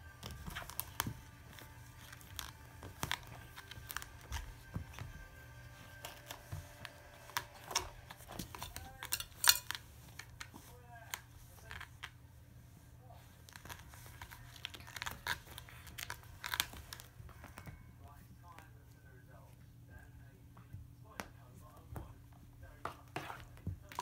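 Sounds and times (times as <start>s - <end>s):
cat scratching post: 0.0s - 19.6s.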